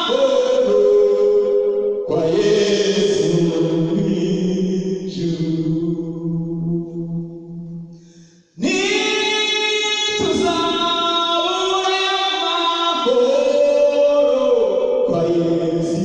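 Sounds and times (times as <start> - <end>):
man singing unaccompanied: 0.0 - 7.2, 8.6 - 16.0.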